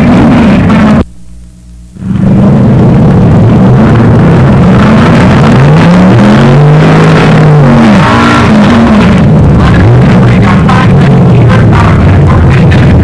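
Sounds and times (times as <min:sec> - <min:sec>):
racing car engine revving: 0:00.0 - 0:01.1, 0:02.0 - 0:13.0.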